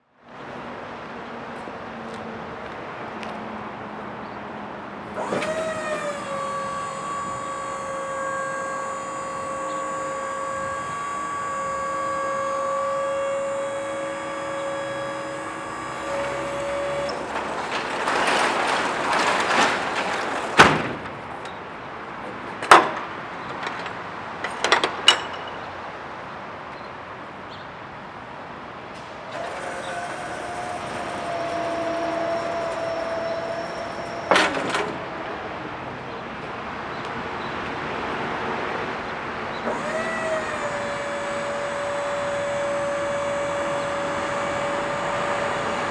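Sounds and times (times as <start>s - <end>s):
hydraulic pump motor whining: 2.6s - 25.5s, 28.1s - 37.1s, 39.4s - 45.9s.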